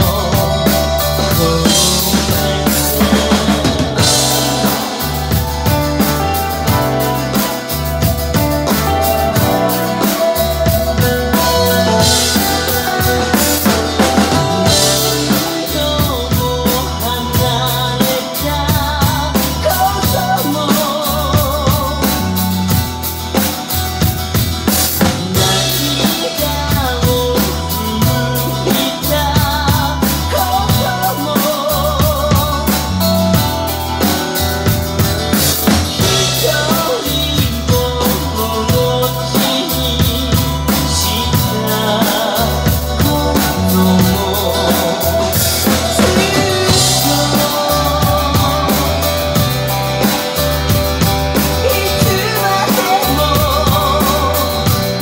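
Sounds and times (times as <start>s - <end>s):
drum kit playing rock beat: 0.0s - 55.0s
recorded rock song: 0.0s - 55.0s.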